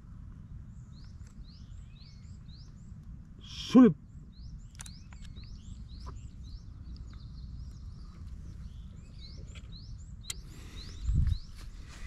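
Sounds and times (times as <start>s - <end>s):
songbirds chirping: 0.0s - 12.0s
steady low rumble: 0.0s - 12.0s.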